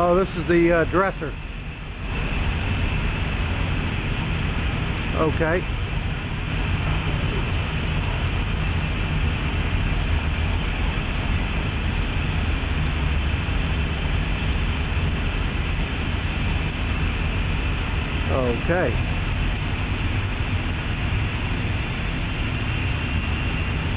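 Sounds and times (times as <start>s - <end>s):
shop machinery low hum: 0.0s - 23.9s.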